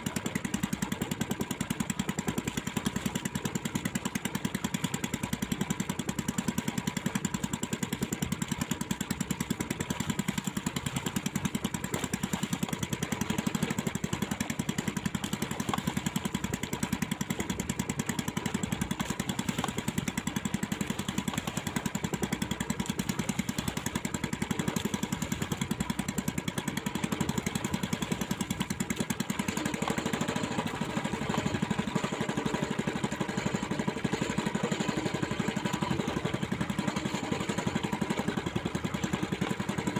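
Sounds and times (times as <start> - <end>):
small boat engine running: 0.0 - 39.9.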